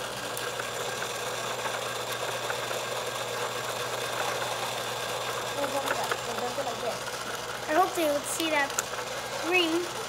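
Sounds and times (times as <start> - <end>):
small electric motor humming: 0.0 - 10.0.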